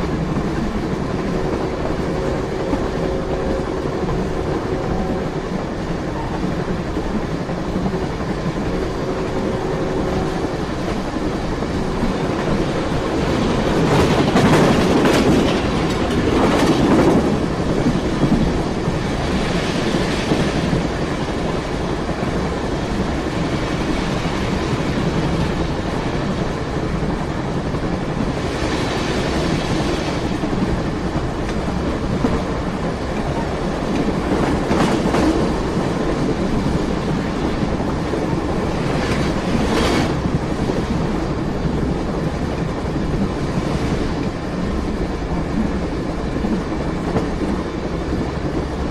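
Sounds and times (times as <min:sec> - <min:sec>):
train rumbling: 0:00.0 - 0:48.9
wheels clattering on track: 0:00.0 - 0:48.9.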